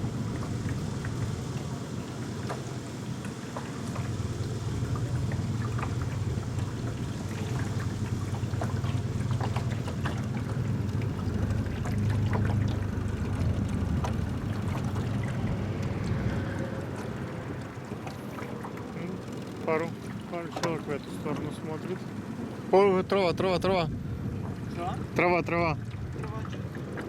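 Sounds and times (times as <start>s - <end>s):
outboard motor humming: 0.0s - 27.0s
water splashing against hull: 0.0s - 27.0s.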